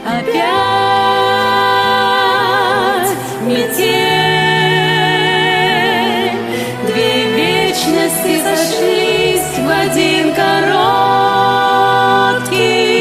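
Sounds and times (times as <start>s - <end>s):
woman singing with vibrato: 0.0s - 13.0s.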